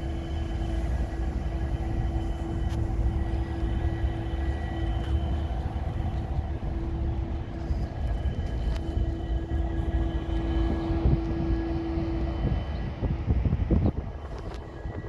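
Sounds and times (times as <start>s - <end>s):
locomotive engine rumble: 0.0s - 15.0s
steady hum: 0.0s - 15.0s.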